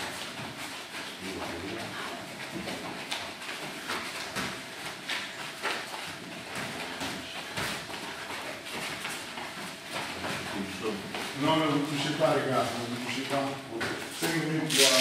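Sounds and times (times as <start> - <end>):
feet moving on padded mat: 0.0 - 15.0.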